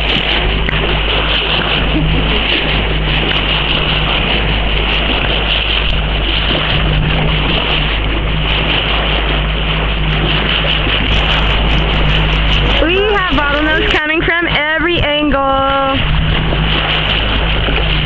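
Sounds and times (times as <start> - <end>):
boat engine hum: 0.0 - 18.0
water rushing along hull: 0.0 - 18.0
wind buffeting microphone: 0.0 - 18.0.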